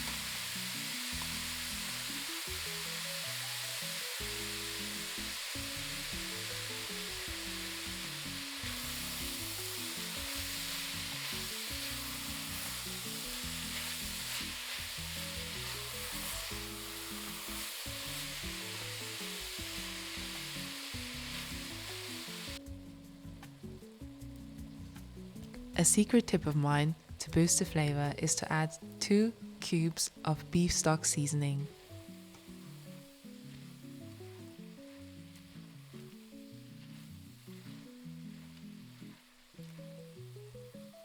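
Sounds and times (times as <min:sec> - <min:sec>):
meat sizzling in a pot: 0:00.0 - 0:26.2, 0:31.6 - 0:41.0
soft background music: 0:00.0 - 0:41.0.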